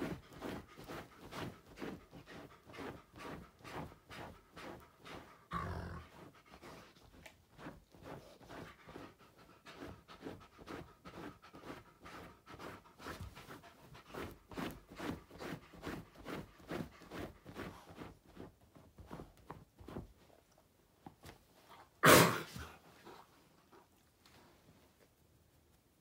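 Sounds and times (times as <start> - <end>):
dog panting: 0.0 - 20.1, 22.5 - 24.0.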